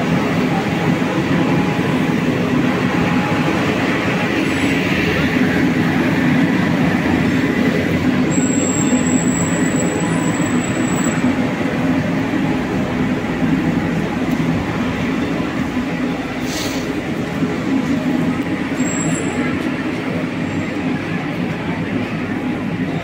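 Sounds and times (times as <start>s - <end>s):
busy street noise: 0.0s - 23.0s.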